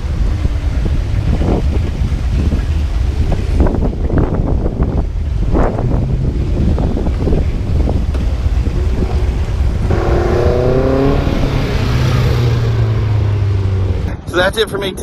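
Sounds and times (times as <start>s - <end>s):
rising pitched hum: 0.0s - 14.3s
car engine running: 0.0s - 15.0s
wind buffeting microphone: 0.0s - 15.0s.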